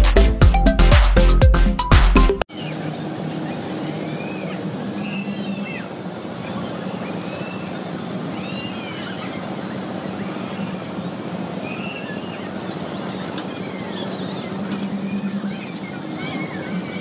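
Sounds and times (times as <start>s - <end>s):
busy fairground noise: 2.5s - 17.0s.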